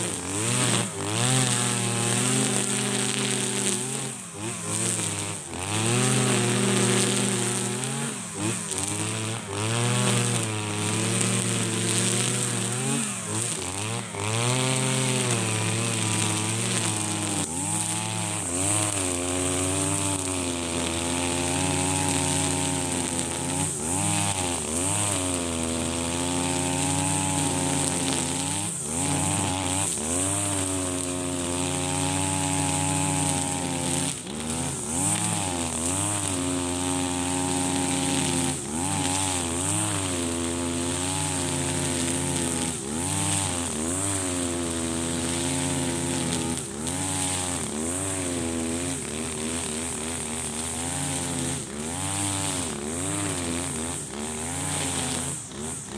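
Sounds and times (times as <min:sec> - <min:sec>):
brush cutter engine at full throttle: 0:00.0 - 0:55.9.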